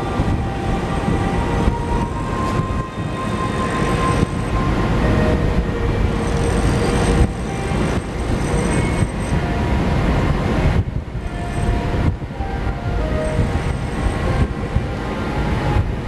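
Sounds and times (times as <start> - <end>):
ship engines rumbling: 0.0 - 16.0.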